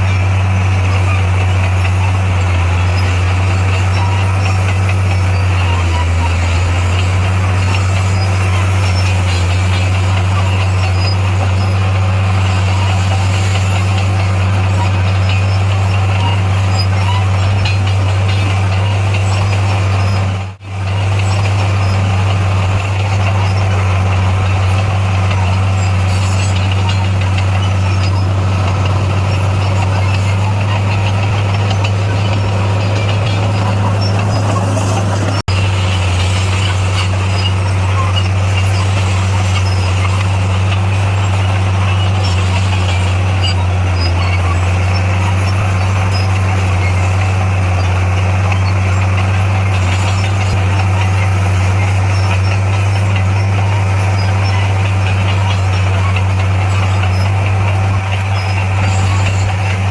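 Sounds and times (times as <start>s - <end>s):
bulldozer diesel engine humming: 0.0s - 59.9s.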